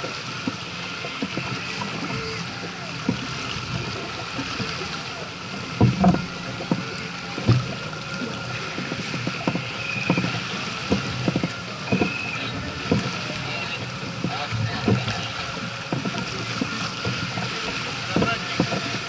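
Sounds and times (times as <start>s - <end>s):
water rushing along hull: 0.0s - 19.0s
dull knocks: 3.0s - 19.0s.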